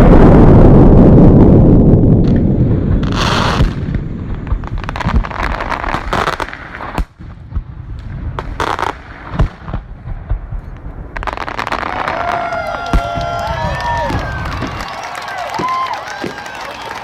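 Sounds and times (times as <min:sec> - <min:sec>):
fireworks crackling and bangs: 0:00.0 - 0:17.0
fireworks low rumble: 0:00.0 - 0:17.0.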